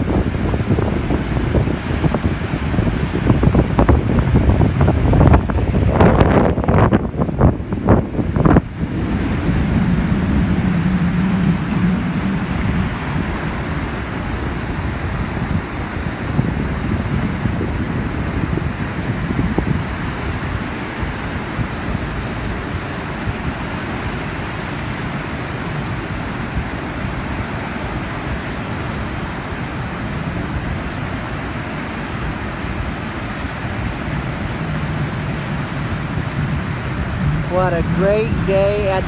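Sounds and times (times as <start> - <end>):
ocean surf washing: 0.0 - 39.0
wind buffeting microphone: 0.0 - 39.0.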